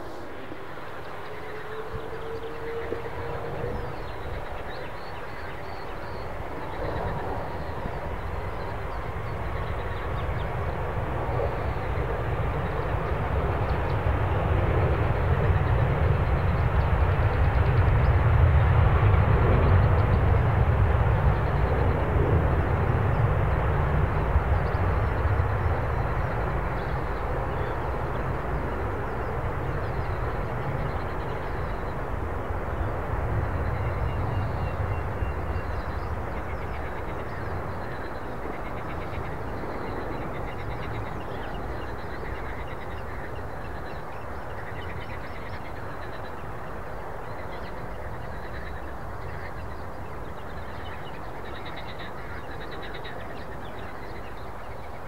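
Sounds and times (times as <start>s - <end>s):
frogs croaking: 0.0s - 18.1s, 19.9s - 55.0s
aircraft engine passing: 0.0s - 55.0s.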